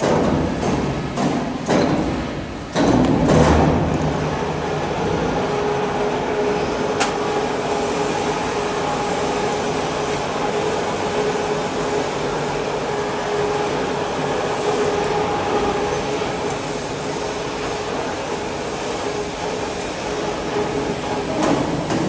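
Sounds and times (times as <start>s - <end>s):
workshop machinery humming: 0.0s - 22.0s.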